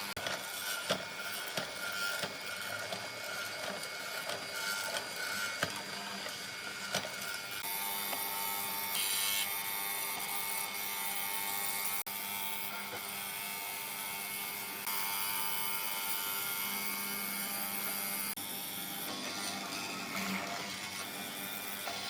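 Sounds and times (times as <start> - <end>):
electric power tool whining: 0.0 - 22.0.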